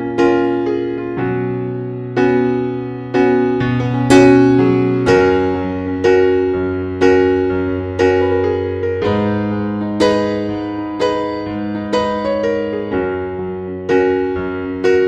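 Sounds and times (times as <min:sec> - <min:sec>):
gentle electric piano music: 0:00.0 - 0:15.0.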